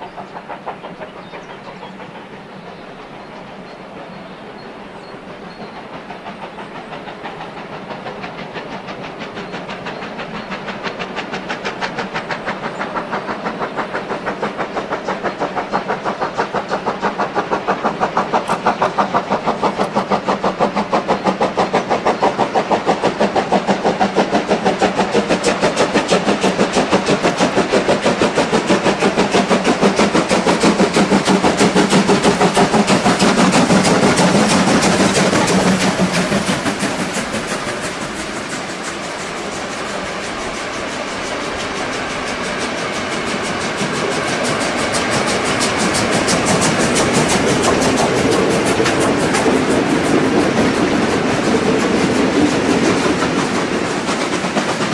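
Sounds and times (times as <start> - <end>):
steam locomotive chuffing: 0.0 - 54.9
train rumbling on rails: 0.0 - 54.9.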